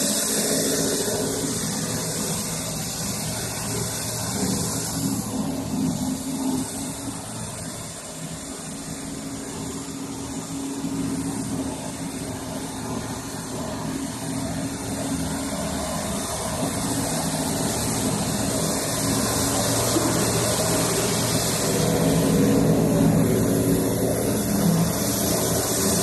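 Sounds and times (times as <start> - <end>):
machine humming and hissing: 0.0 - 26.0.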